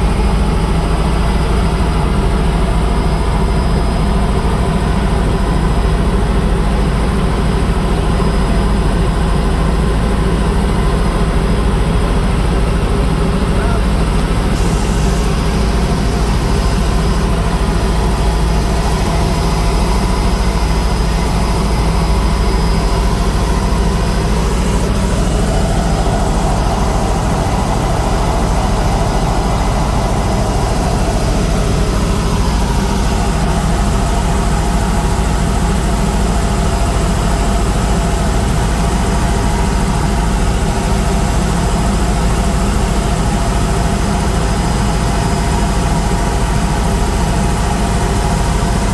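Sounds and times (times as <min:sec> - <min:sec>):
helicopter rotor and engine drone: 0:00.0 - 0:48.9.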